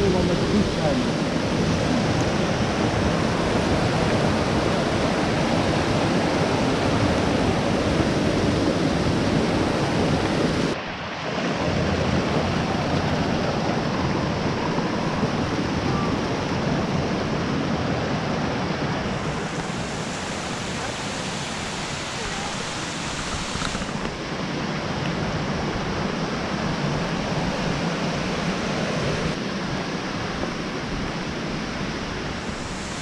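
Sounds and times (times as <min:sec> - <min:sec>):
stream rushing over boulders: 0:00.0 - 0:33.0.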